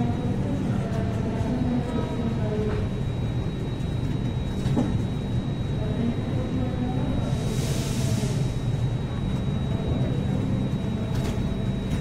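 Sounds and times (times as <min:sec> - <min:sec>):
moving train rumble: 0:00.0 - 0:12.0.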